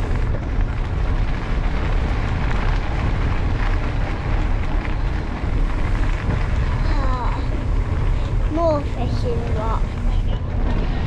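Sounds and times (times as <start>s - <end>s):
bike rolling noise: 0.0s - 11.0s.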